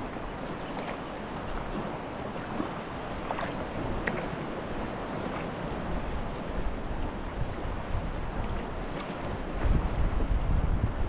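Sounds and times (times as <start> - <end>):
light water splashes: 0.0 - 6.8, 7.4 - 9.8
waves lapping against a hull: 0.0 - 11.0
wind: 0.0 - 11.0.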